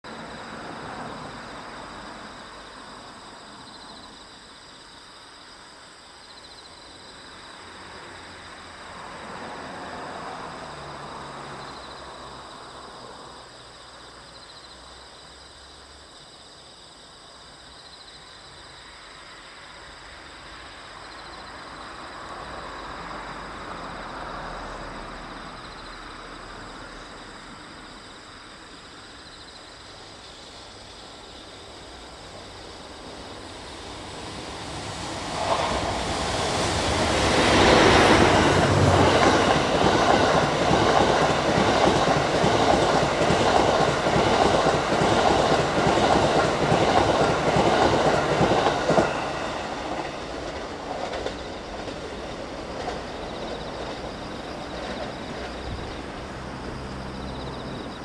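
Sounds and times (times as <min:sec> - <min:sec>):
insects chirping: 0:00.0 - 0:58.0
train approaching: 0:00.0 - 0:58.0.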